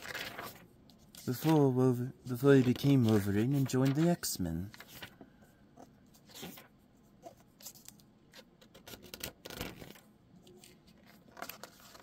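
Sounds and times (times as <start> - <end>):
pages turning: 0.0 - 5.3, 6.1 - 12.0.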